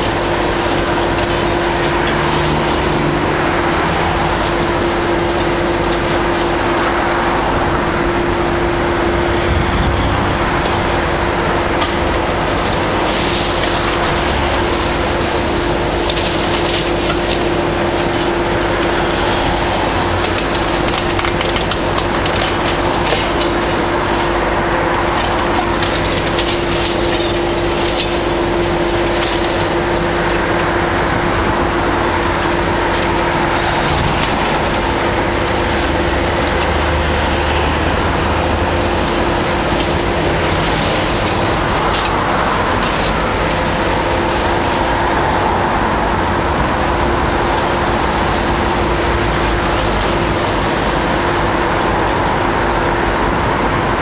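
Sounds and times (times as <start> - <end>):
excavator engine and hydraulics: 0.0 - 54.0
steady hum: 0.0 - 54.0.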